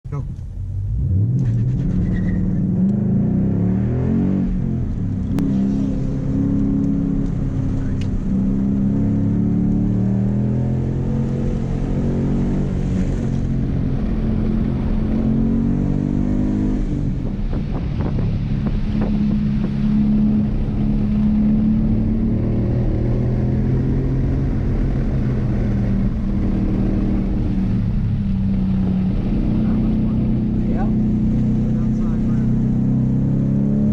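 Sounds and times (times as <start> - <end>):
car engine running hard: 0.1 - 33.9.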